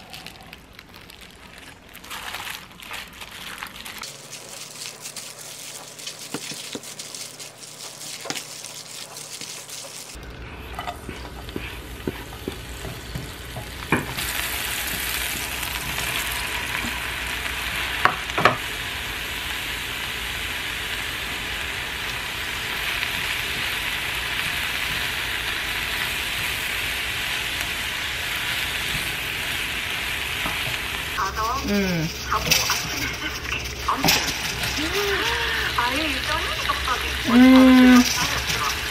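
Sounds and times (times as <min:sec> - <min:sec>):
mushrooms sizzling in a pan: 0:04.0 - 0:38.9.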